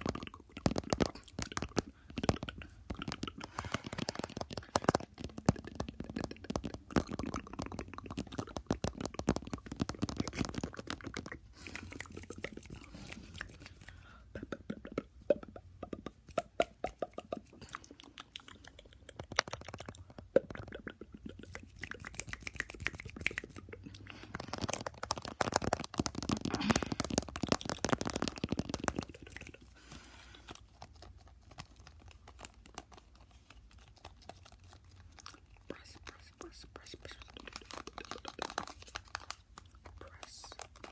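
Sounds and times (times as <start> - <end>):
tongue and lip clicks: 0.0 - 40.9.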